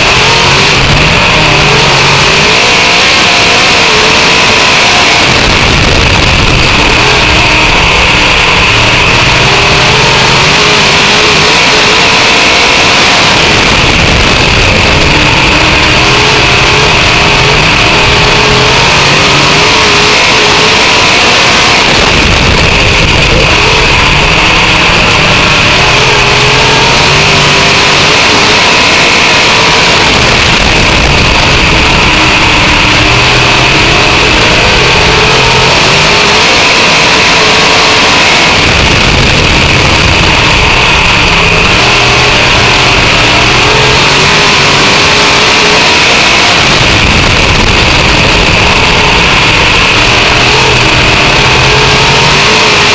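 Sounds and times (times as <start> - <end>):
race car engine: 0.0 - 52.9.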